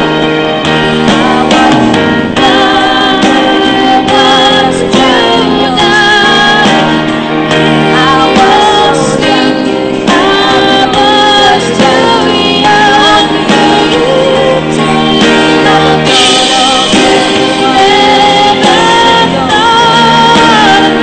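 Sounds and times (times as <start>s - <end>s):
instrumental accompaniment: 0.0s - 21.0s
woman singing with vibrato: 0.0s - 21.0s.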